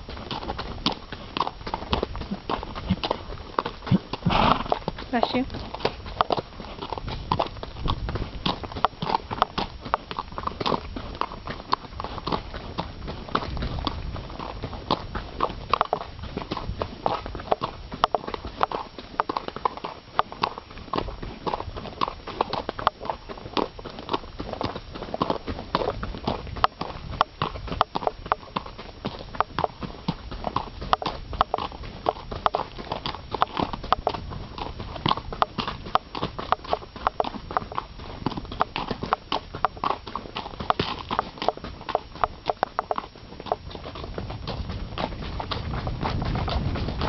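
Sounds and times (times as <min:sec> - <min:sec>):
horse hooves on gravel: 0:00.0 - 0:47.0.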